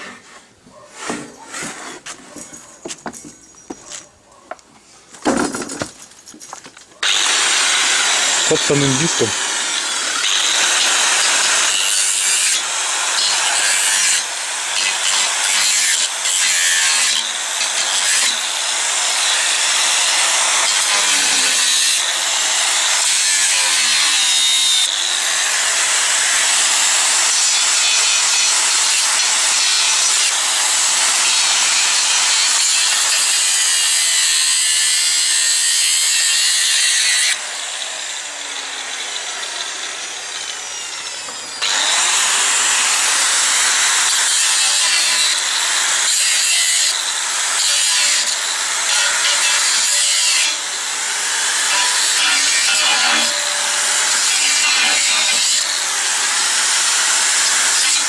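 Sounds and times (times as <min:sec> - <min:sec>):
angle grinder cutting steel: 0:07.0 - 0:58.0.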